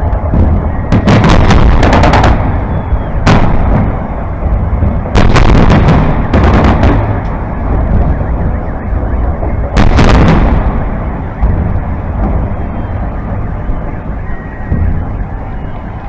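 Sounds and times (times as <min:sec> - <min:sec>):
continuous low rumble: 0:00.0 - 0:16.0
firework bangs: 0:00.0 - 0:16.0.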